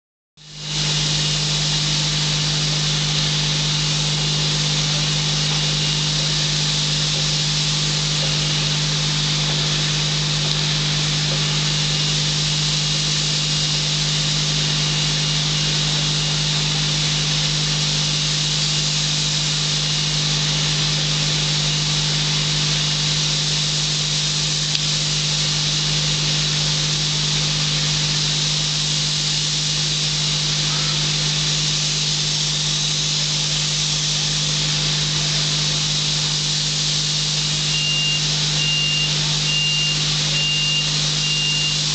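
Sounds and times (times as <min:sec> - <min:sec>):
paint spray gun hissing: 0:00.4 - 0:41.9.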